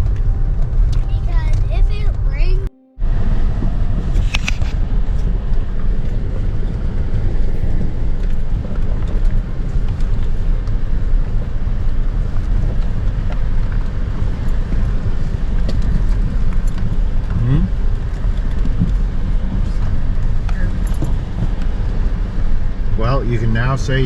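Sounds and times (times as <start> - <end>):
off-road vehicle engine rumble: 0.0 - 24.0.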